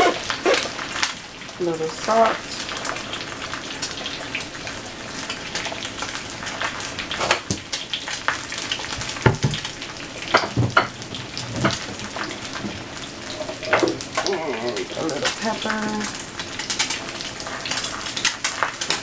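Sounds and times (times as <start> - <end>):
eggs sizzling in hot oil: 0.0 - 19.0
oil crackling and popping: 0.0 - 19.0.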